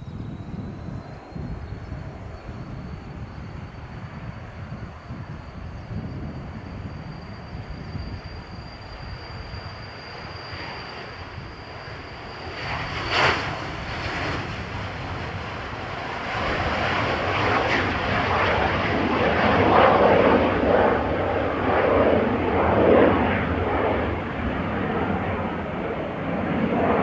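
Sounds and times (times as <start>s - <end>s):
jet engine roar: 0.0s - 27.0s
jet engine whine: 0.0s - 27.0s.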